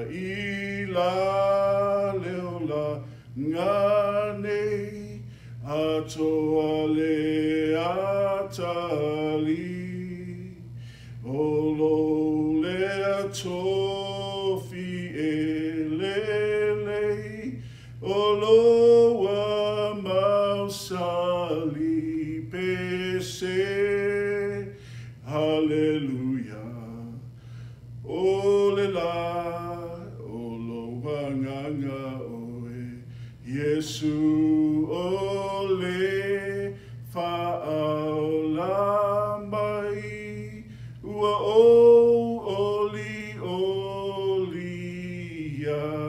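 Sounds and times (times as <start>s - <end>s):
man singing a hymn: 0.0s - 46.0s.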